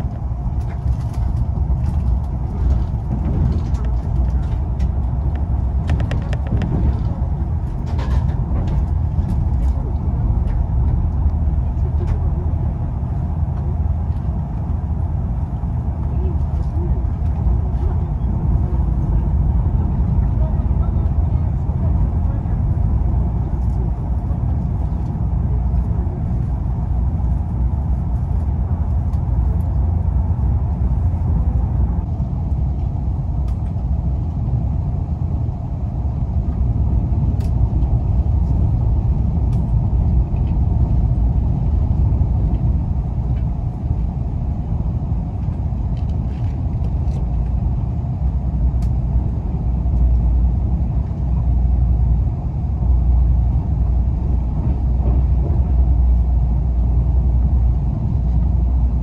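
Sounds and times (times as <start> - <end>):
train wheels rumbling: 0.0 - 59.0.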